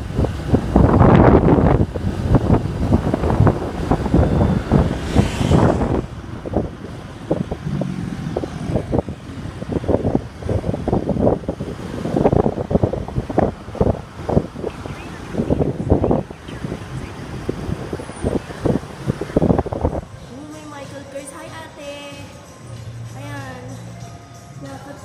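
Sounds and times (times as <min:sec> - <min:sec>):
wind buffeting microphone: 0:00.0 - 0:21.1
road and traffic rumble: 0:00.0 - 0:25.0.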